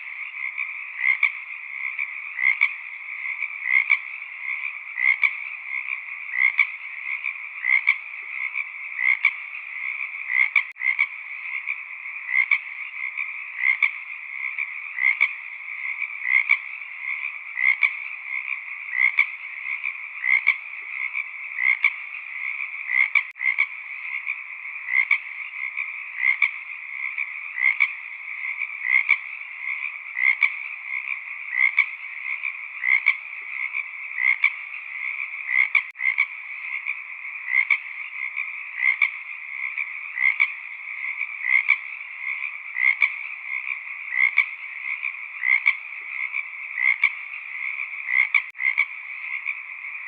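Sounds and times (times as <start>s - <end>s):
frogs trilling: 0.0s - 50.0s
loud frog call: 0.0s - 50.0s.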